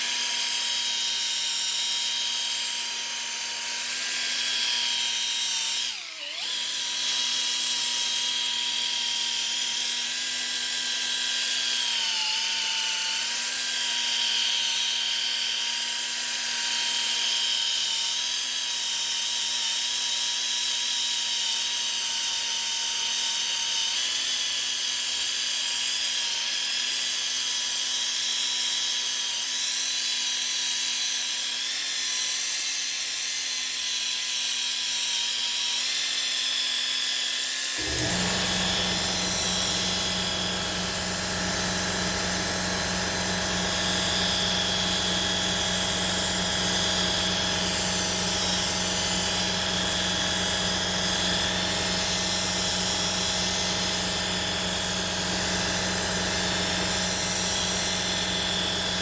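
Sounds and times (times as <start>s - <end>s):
electric polisher motor whine: 0.0s - 59.0s.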